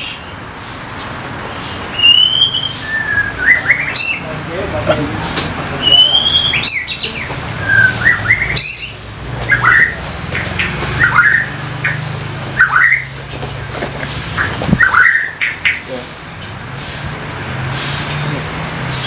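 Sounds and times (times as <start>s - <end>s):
bird chirping and squawking: 0.0s - 0.4s, 1.5s - 4.4s, 5.8s - 19.0s.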